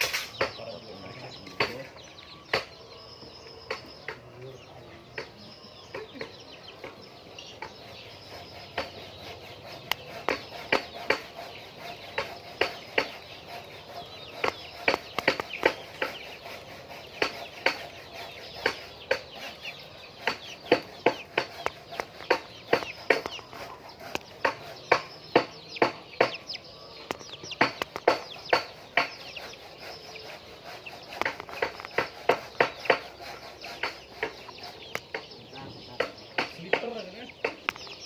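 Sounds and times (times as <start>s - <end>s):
hens clucking: 0.0s - 38.0s.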